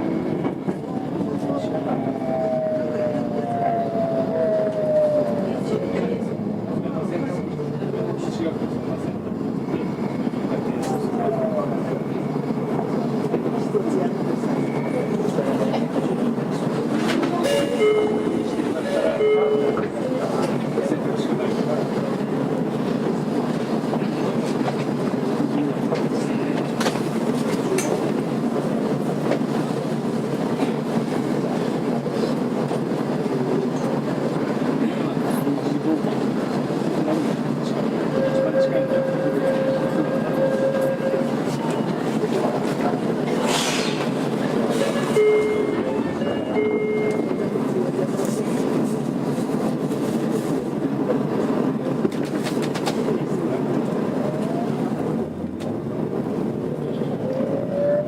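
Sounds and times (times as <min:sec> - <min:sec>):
subway train rumble: 0:00.0 - 0:58.0.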